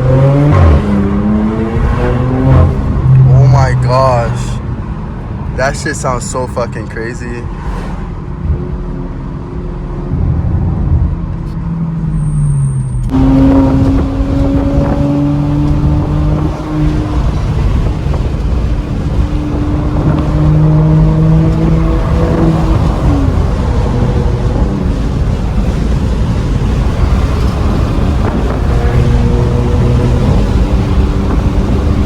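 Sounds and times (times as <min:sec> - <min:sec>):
car exhaust accelerating: 0:00.0 - 0:32.0.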